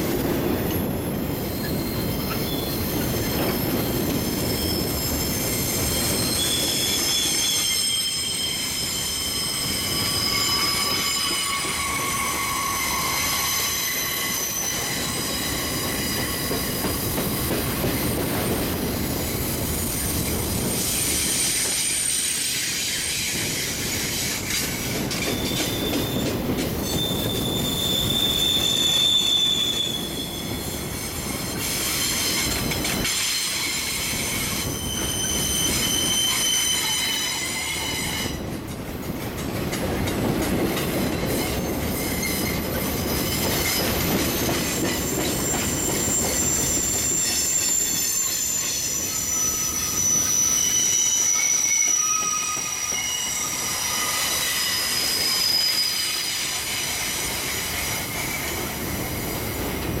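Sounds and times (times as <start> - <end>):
steel wheels squealing: 0.1 - 38.5, 39.8 - 60.0.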